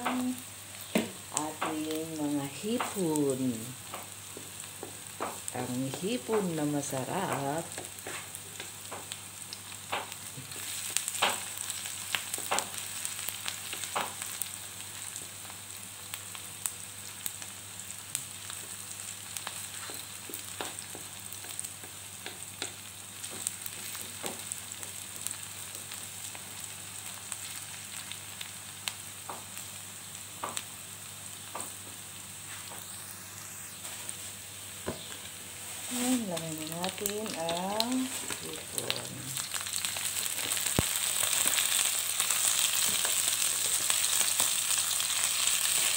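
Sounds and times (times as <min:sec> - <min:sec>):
onion sizzling in oil: 0:00.0 - 0:45.9.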